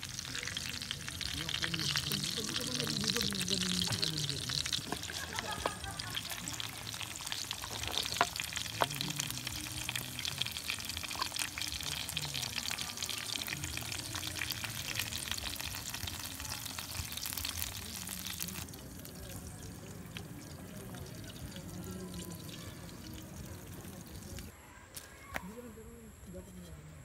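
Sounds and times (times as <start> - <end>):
patties sizzling in hot oil: 0.0 - 24.5.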